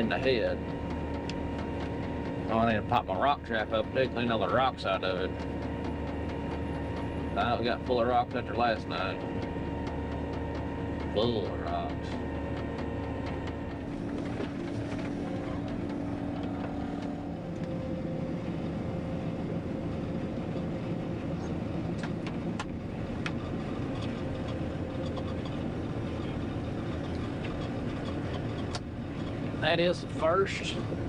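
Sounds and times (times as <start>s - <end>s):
farm machinery droning: 0.0s - 31.0s.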